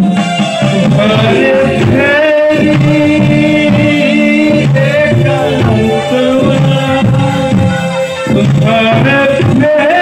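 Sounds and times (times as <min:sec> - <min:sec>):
musical accompaniment: 0:00.0 - 0:10.0
man singing into microphone: 0:00.7 - 0:10.0.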